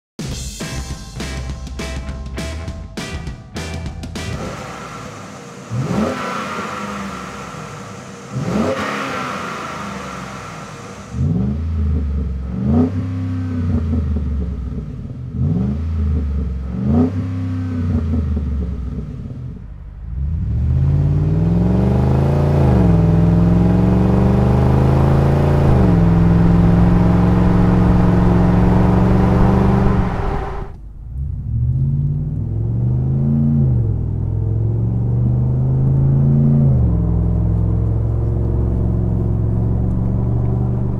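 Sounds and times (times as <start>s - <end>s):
engine revving: 3.6s - 40.9s.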